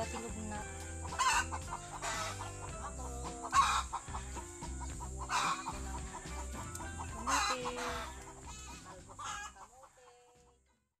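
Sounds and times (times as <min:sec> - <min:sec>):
background music with beat: 0:00.0 - 0:09.4
chickens clucking: 0:00.0 - 0:10.6.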